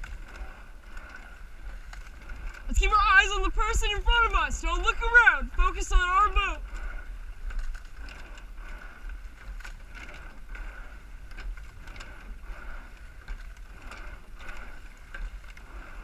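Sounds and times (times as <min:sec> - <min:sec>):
seats rolling on slides: 0:00.0 - 0:16.0
wind on microphone: 0:00.0 - 0:16.0.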